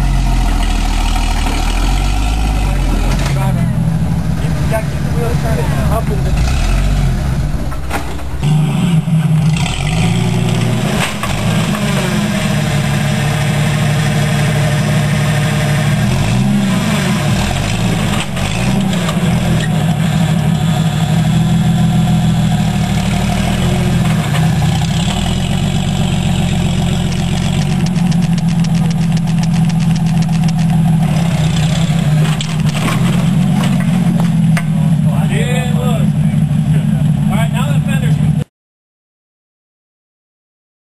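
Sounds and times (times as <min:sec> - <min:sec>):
car engine running at low revs: 0:00.0 - 0:38.5.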